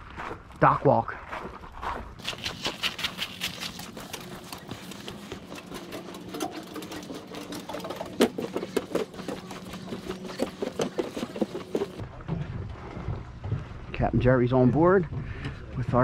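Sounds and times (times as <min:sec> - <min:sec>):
footsteps on wooden planks: 0:00.0 - 0:13.9, 0:14.6 - 0:15.8.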